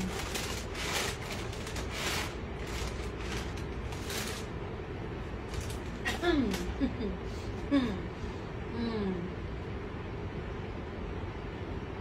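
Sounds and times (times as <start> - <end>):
aircraft cabin air hum: 0.0 - 12.0.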